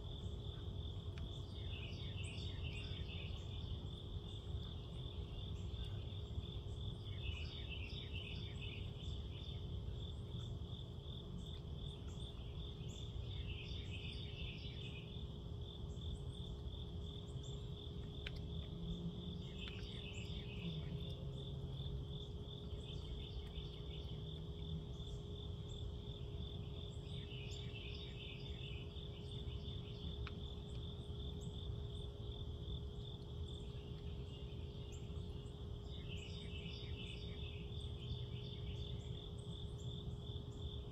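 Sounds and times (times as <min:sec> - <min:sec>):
faint low hum and rumble: 0:00.0 - 0:40.9
lower pulsed insect calls: 0:00.0 - 0:40.9.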